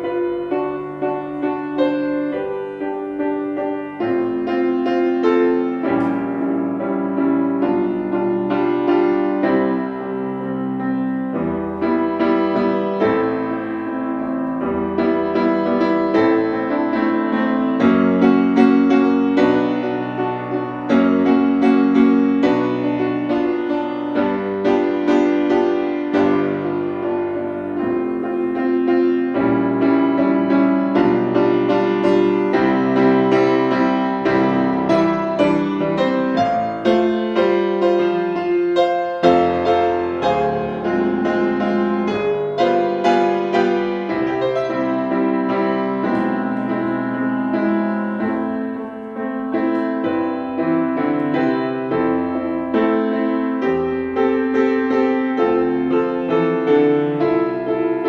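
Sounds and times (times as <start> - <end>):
classical piano piece: 0.0 - 58.0.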